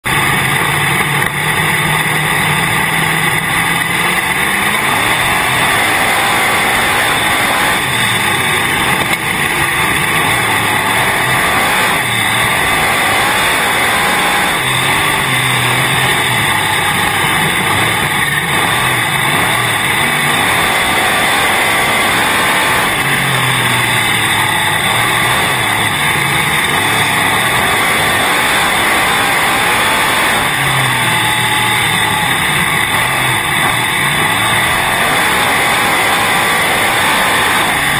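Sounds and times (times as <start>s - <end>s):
race car engine revving: 0.0s - 37.9s.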